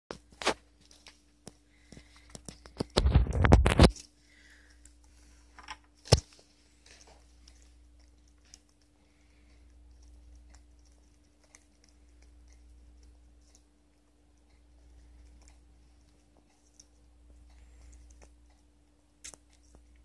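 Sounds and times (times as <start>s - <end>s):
low steady hum: 0.1s - 20.0s
squirrel eating clicks: 1.0s - 20.0s.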